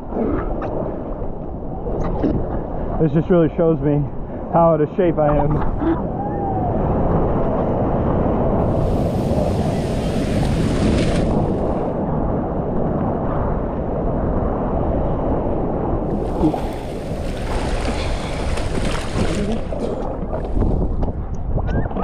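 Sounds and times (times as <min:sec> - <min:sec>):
ocean surf washing: 0:00.8 - 0:21.6.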